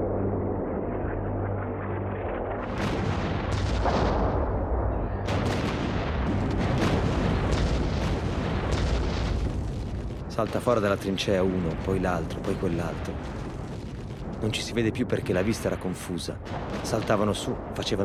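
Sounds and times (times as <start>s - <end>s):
low rumble: 0.0s - 18.0s
gunshots and blasts: 2.6s - 18.0s.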